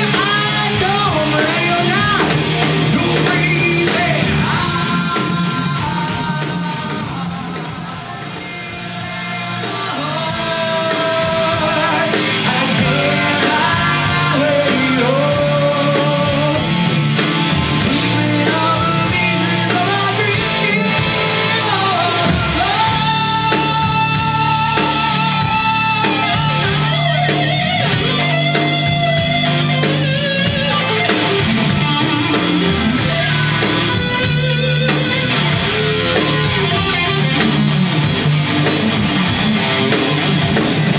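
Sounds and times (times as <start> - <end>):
electric guitar lead line: 0.0 - 40.9
hard rock band playing: 0.0 - 40.9.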